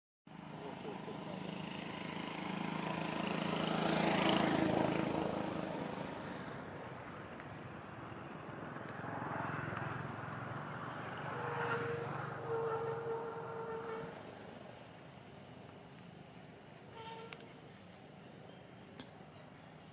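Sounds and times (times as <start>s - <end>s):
passing traffic engines: 0.3s - 19.9s.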